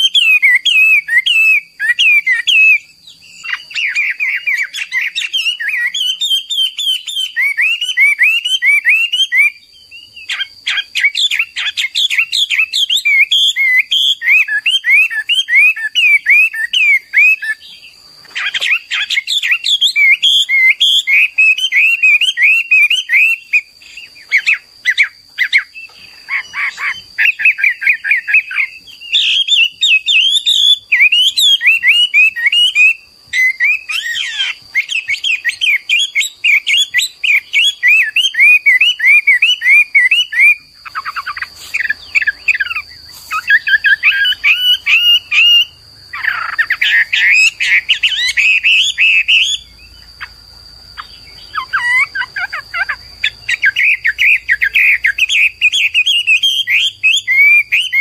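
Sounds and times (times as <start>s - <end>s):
bird singing whistled phrases: 0.0s - 50.3s, 51.0s - 58.0s.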